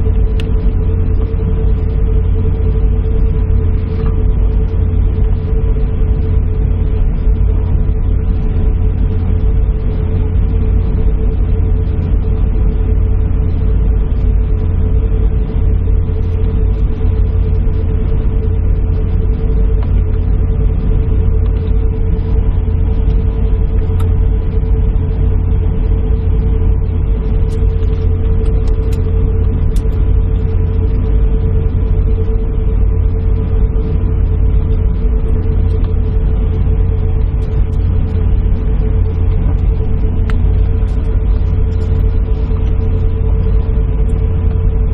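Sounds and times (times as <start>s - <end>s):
airliner cabin noise: 0.0s - 44.9s.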